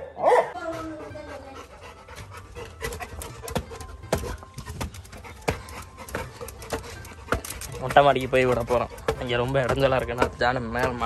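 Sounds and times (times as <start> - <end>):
puppy panting: 0.3 - 11.0.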